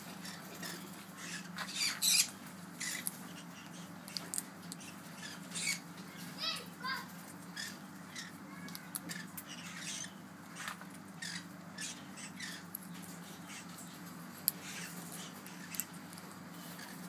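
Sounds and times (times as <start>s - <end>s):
steady low hum: 0.0s - 17.0s
parakeets squeaking and chirping: 0.1s - 17.0s.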